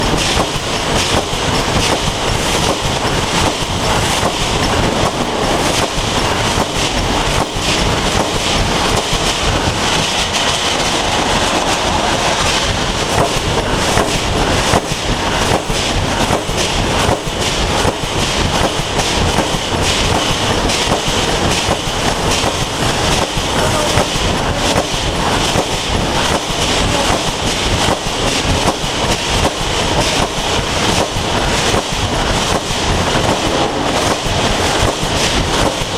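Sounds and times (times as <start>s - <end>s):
welding machine mechanical clatter: 0.0s - 35.9s.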